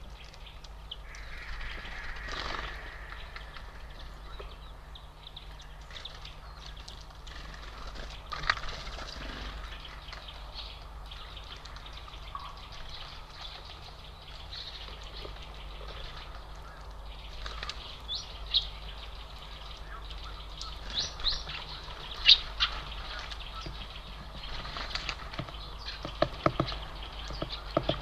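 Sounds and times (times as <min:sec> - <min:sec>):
songbirds chirping: 0:00.0 - 0:28.0
steady low hum: 0:00.0 - 0:28.0.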